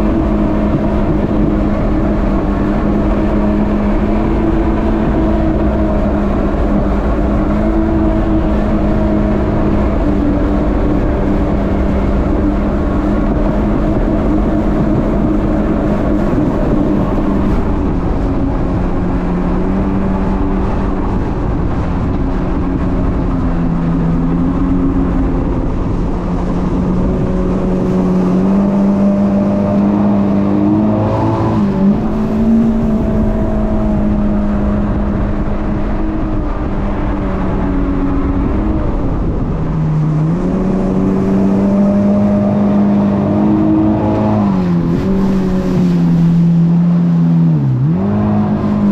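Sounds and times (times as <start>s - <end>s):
jet ski engine running: 0.0s - 48.9s.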